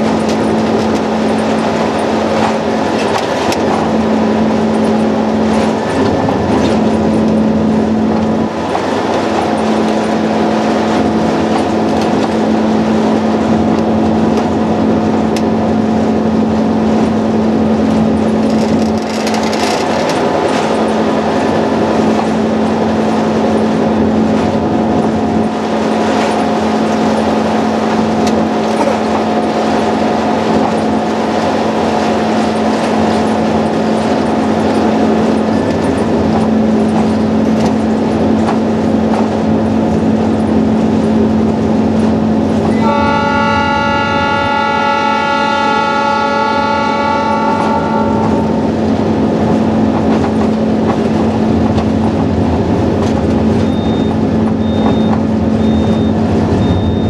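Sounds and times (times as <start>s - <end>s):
locomotive engine drone: 0.0s - 57.0s
train rumble: 0.0s - 57.0s.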